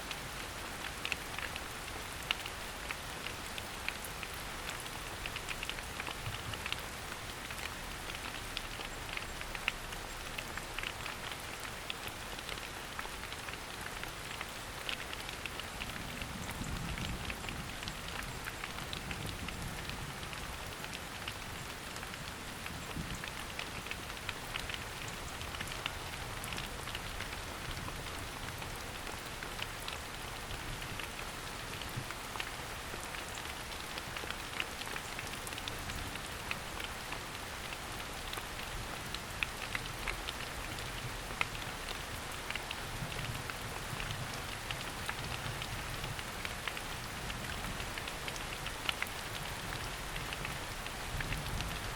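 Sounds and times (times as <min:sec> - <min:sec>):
rain falling through foliage: 0:00.0 - 0:51.9.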